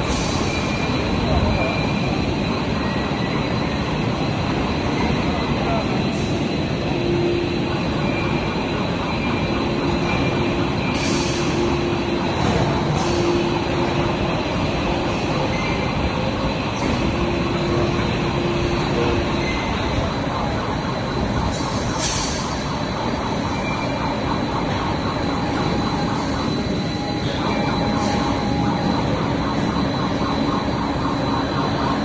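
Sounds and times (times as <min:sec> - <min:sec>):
machinery rumble and hiss: 0:00.0 - 0:32.0.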